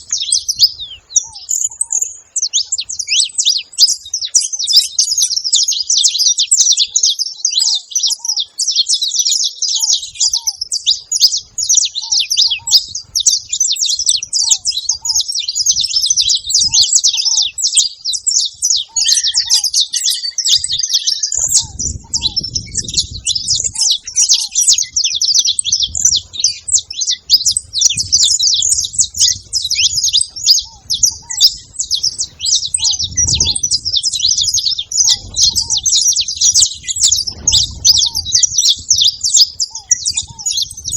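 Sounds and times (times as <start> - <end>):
finches chattering and chirping: 0.0 - 40.9.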